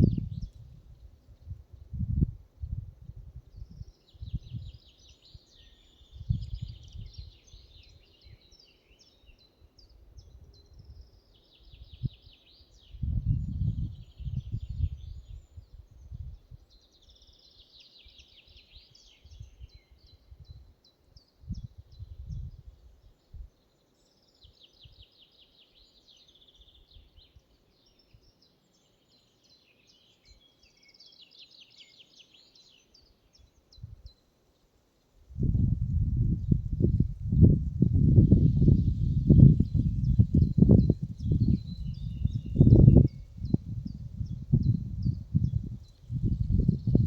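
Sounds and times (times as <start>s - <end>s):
songbirds trilling and chirping: 3.4s - 47.0s.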